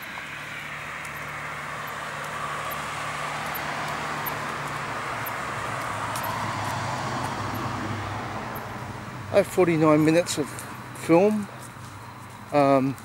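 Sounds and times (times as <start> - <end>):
car approaching on road: 0.0 - 13.0.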